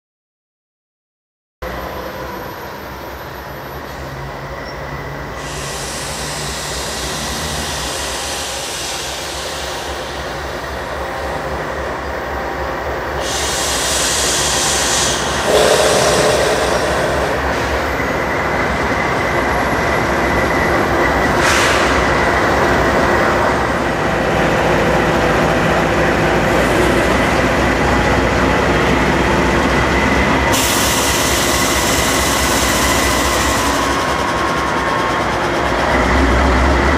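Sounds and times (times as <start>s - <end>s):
freight train rolling past: 1.6s - 36.9s.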